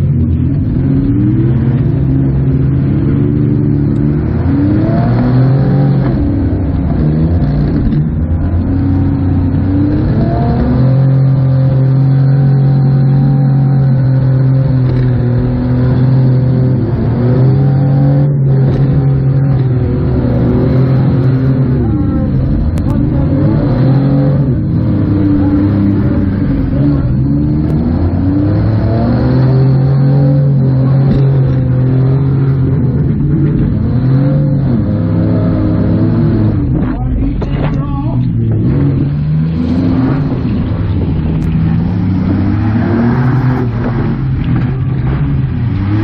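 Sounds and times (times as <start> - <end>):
van engine revving: 0.0 - 46.0.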